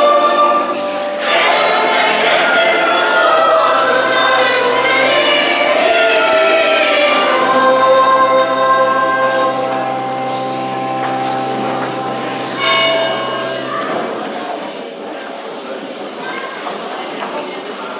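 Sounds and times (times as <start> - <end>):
church choir singing a hymn: 0.0 - 14.6.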